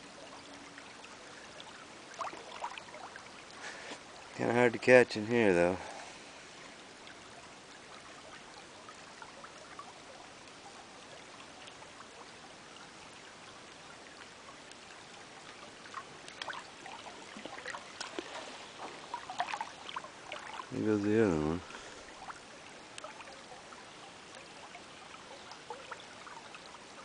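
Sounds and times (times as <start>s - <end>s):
creek water trickling: 0.0s - 27.0s
sharp ticks and splashes: 0.0s - 27.0s.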